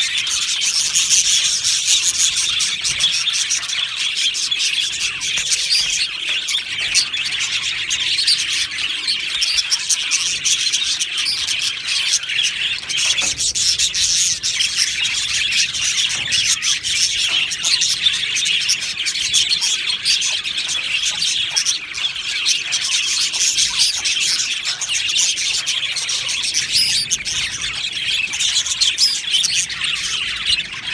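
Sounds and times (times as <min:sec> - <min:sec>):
budgerigars chirping: 0:00.0 - 0:30.9.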